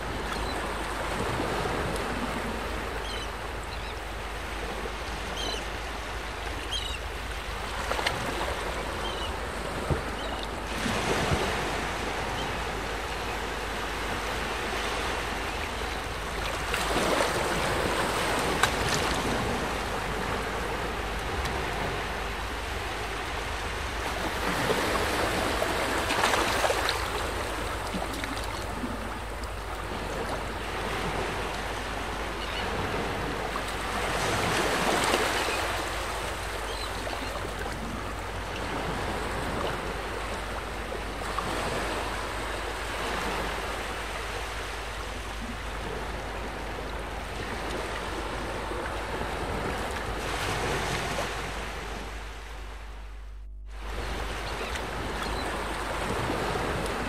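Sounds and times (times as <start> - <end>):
small waves lapping: 0.0 - 57.0
wind: 0.0 - 57.0.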